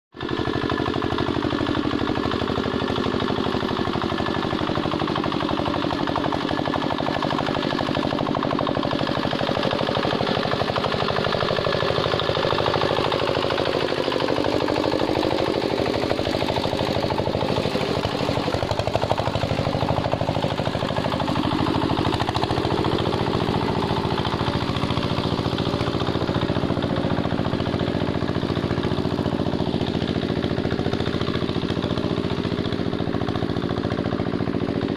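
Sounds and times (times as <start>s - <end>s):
diesel engine running under load: 0.1s - 34.9s.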